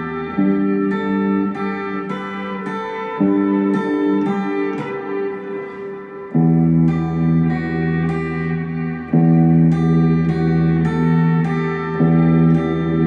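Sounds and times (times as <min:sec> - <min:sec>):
electric guitar: 0:00.0 - 0:13.0.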